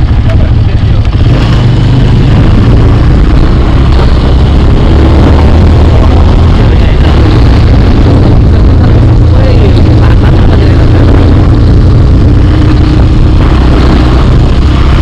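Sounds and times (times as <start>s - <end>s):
motorcycle engine running: 0.0s - 15.0s
wind rumble on microphone: 1.0s - 15.0s.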